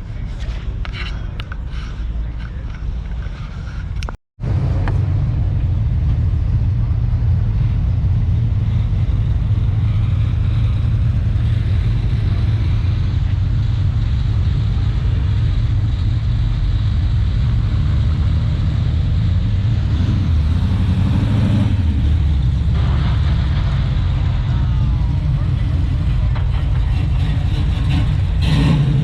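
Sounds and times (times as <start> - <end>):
vehicle engine rumbling: 0.0 - 29.0.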